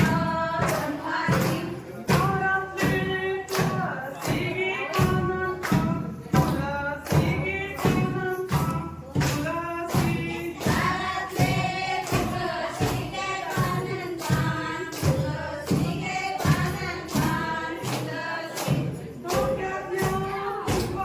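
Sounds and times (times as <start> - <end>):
group singing folk song: 0.0 - 21.0
sharp percussive strikes: 0.0 - 21.0.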